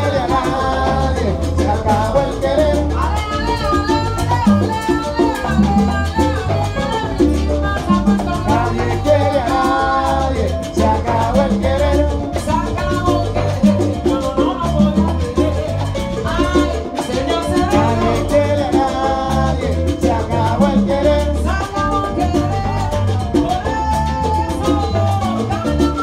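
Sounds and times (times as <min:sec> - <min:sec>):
voices singing: 0:00.0 - 0:22.6
congas: 0:00.0 - 0:26.0
salsa band playing live: 0:00.0 - 0:26.0.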